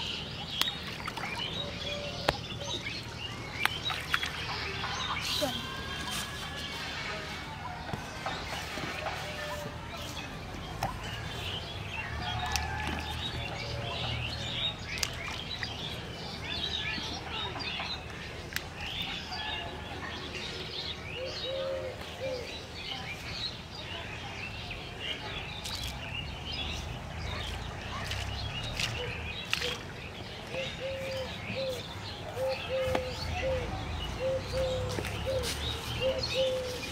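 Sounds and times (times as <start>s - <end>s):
small birds chirping: 0.0s - 6.4s, 7.8s - 19.4s, 20.2s - 36.9s.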